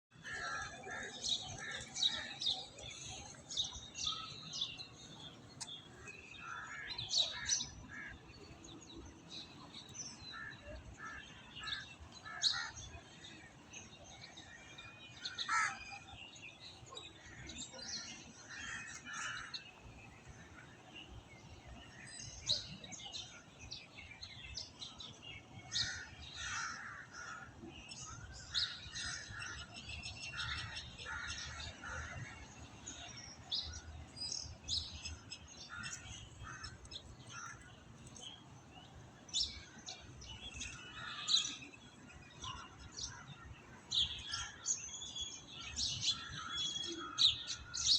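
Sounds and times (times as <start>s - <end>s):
birds chirping: 0.1s - 47.9s.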